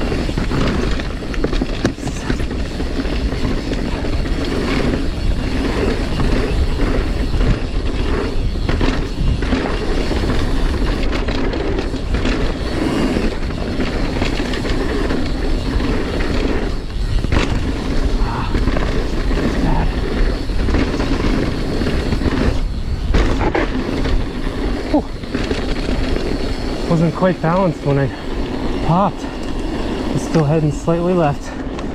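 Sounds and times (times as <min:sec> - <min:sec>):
bike chain and frame rattling: 0:00.0 - 0:31.9
tyre noise on dirt: 0:00.0 - 0:31.9
wind rush on microphone: 0:00.0 - 0:31.9.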